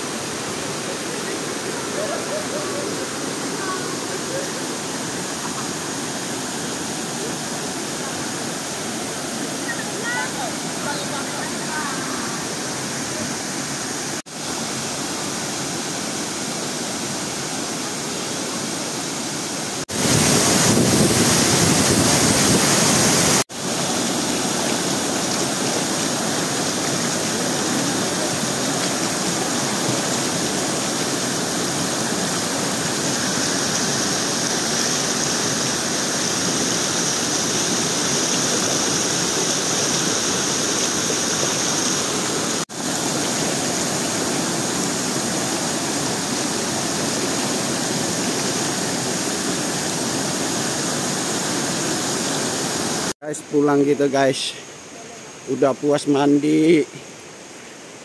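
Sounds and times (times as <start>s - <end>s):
waterfall and rapids rushing: 0.0s - 58.0s.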